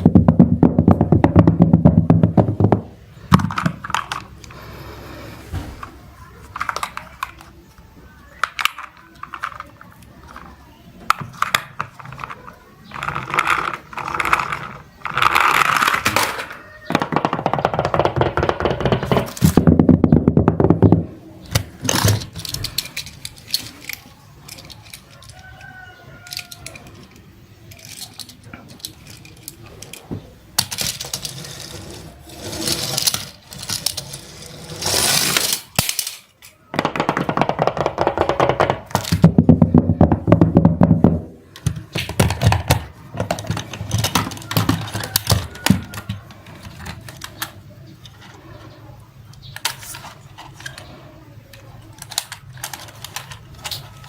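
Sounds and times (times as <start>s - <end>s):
toy vehicles rolling and clattering: 0.0s - 54.0s.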